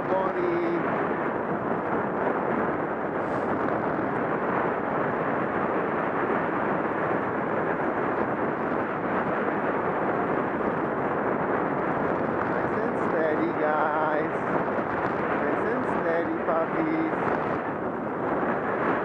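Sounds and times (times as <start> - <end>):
bike tyre rumble on snow: 0.0 - 19.0
wind on microphone: 0.0 - 19.0.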